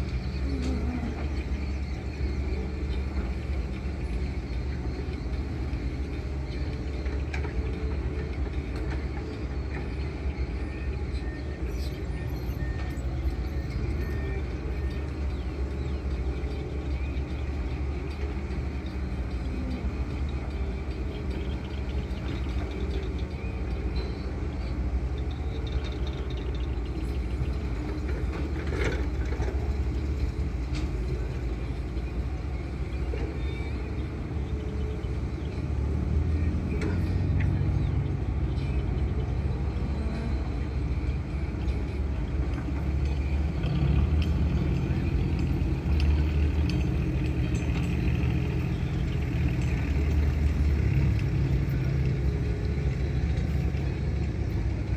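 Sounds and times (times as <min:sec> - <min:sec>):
excavator diesel engines droning: 0:00.0 - 0:54.9.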